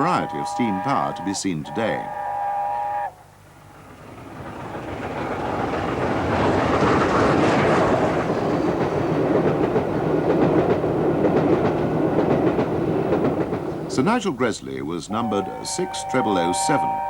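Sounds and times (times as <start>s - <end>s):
steam train passing: 0.0s - 17.0s.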